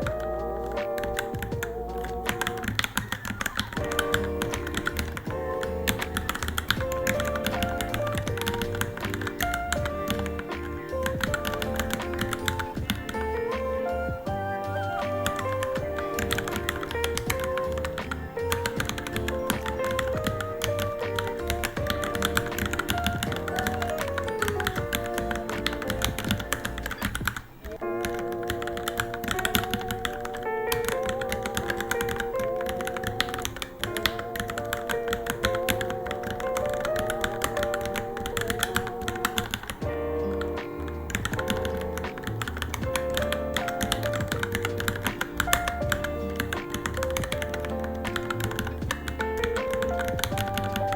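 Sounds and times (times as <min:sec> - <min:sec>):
mechanical keyboard typing: 0:00.0 - 0:14.4, 0:15.0 - 0:50.9
background music with melody: 0:00.0 - 0:50.9.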